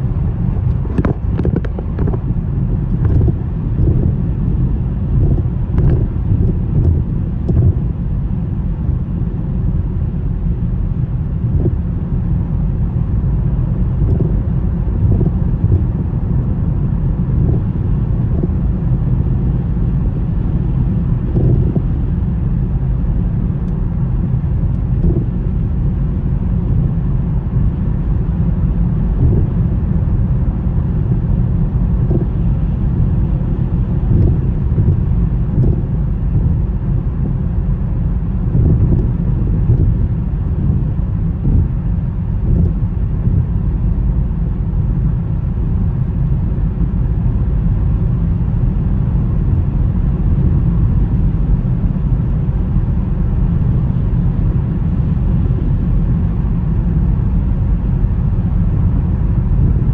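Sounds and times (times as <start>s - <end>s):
car driving on snowy road: 0.0s - 59.9s.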